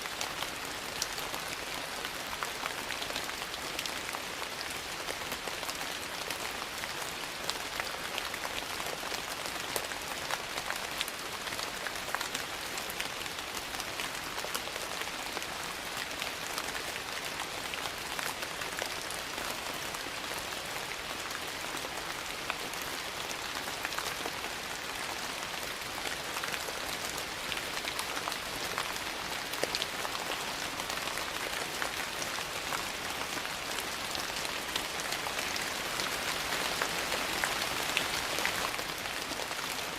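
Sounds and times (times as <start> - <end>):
rain falling: 0.0 - 39.9
small sharp rain ticks: 0.0 - 39.9.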